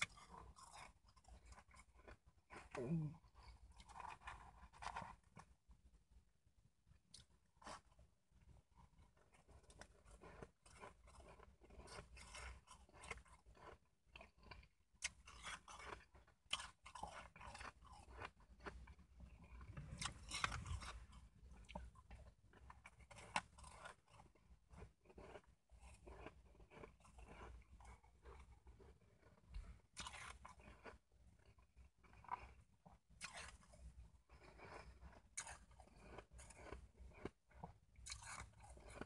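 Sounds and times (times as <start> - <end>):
chewing shaved ice crunches: 0.0 - 5.6, 6.9 - 39.0.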